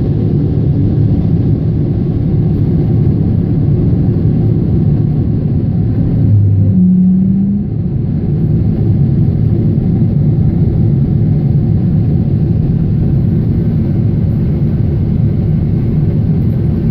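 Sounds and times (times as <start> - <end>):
jet engine and airflow rumble: 0.0 - 16.9.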